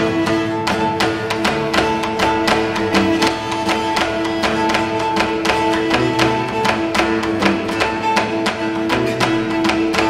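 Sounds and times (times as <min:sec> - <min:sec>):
percussive strokes: 0:00.0 - 0:10.0
plucked string music: 0:00.0 - 0:10.0.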